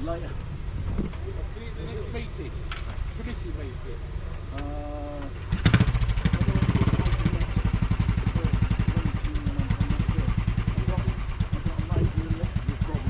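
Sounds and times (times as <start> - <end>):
vehicle engine starting and idling: 0.0 - 13.0.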